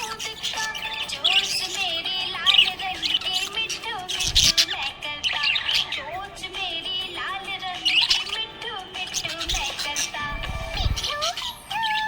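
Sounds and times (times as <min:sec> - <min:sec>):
budgerigars chirping and warbling: 0:00.0 - 0:12.0.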